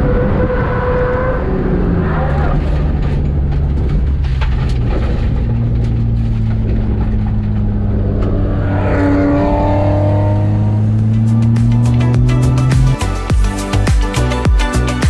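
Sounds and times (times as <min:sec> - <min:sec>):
car engine droning in cabin: 0:00.0 - 0:13.3.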